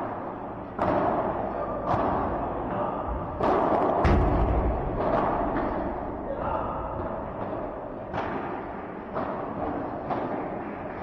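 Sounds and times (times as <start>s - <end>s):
background murmur: 0.0s - 11.0s
racket hitting ball: 0.7s - 6.2s, 7.0s - 10.7s.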